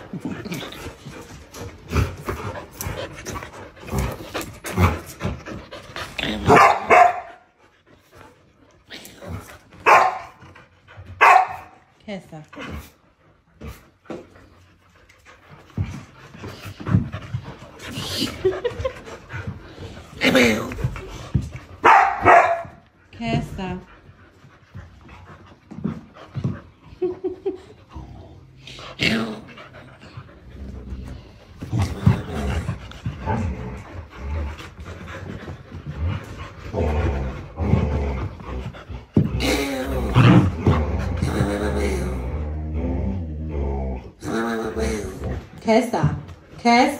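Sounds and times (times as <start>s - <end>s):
dog panting: 0.0s - 41.8s.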